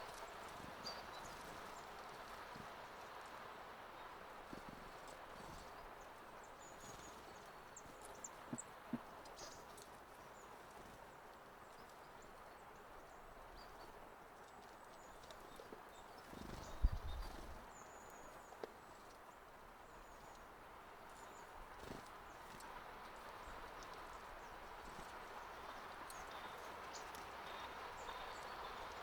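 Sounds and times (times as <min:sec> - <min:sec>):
faint outdoor background noise: 0:00.0 - 0:29.0.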